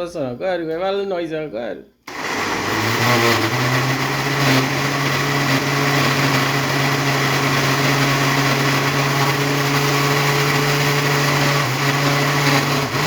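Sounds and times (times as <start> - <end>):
blender running: 2.1 - 13.0.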